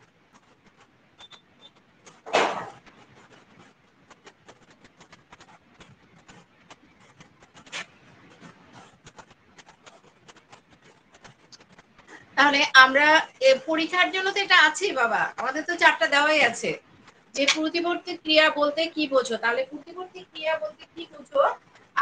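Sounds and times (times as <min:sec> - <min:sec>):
faint clicks and crackle: 0:00.0 - 0:22.0.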